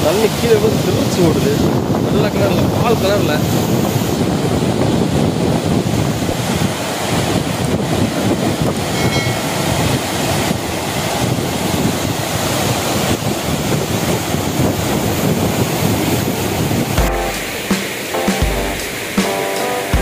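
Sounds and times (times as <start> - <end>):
waterfall rushing: 0.0 - 4.8, 5.7 - 20.0.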